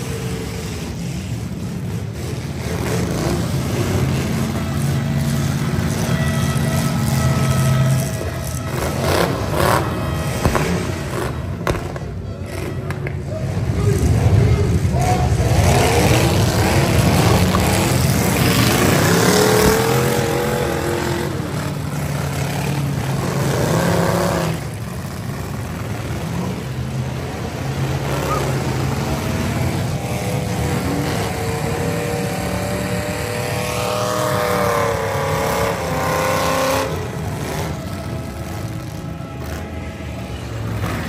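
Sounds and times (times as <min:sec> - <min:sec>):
car engines revving hard: 0:00.0 - 0:41.0.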